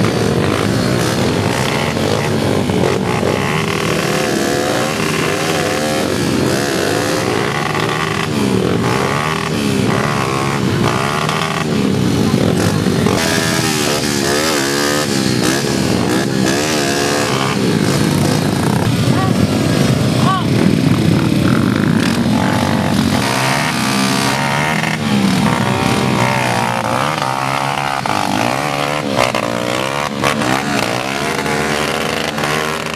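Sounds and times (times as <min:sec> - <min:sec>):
dirt bike engines revving: 0:00.0 - 0:32.9.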